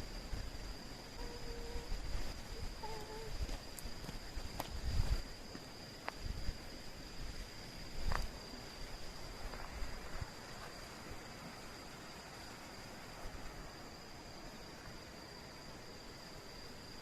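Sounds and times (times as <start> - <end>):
insect trilling: 0.0 - 17.0.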